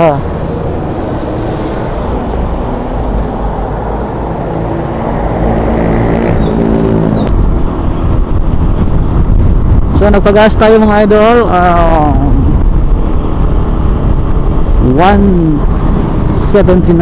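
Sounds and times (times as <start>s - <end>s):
vehicle engine idling and revving: 0.0s - 17.0s.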